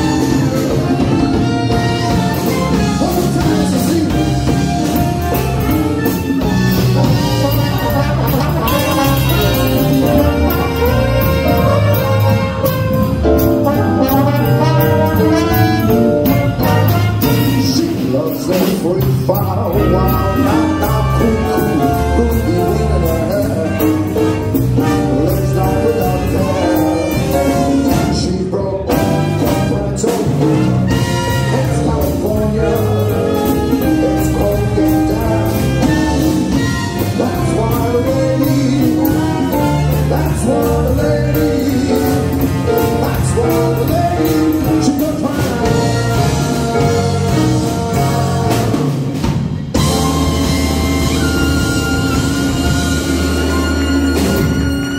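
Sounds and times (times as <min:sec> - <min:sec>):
big band jazz: 0:00.0 - 0:54.9.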